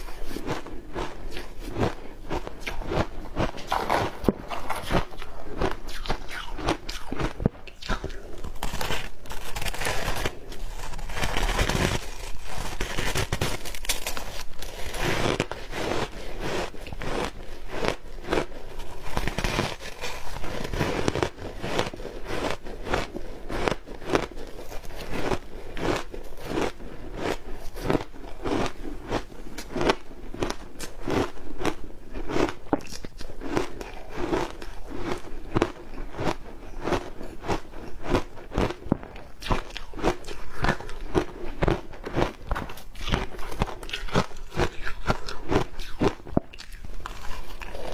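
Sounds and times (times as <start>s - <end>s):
ice crunching while chewed: 0.0s - 47.9s.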